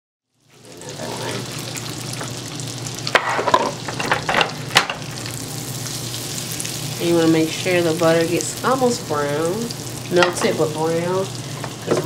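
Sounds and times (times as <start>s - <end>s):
butter sizzling in a pan: 0.3s - 12.0s.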